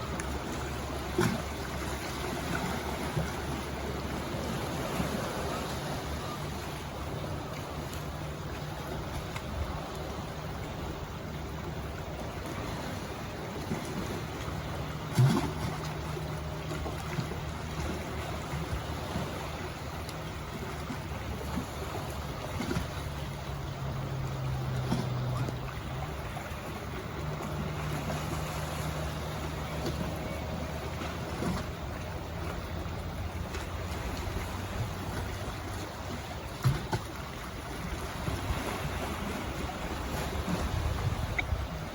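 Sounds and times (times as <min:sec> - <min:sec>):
low steady hum: 0:00.0 - 0:41.9
sea water washing: 0:00.0 - 0:41.9
wind rumbling on microphone: 0:00.0 - 0:41.9.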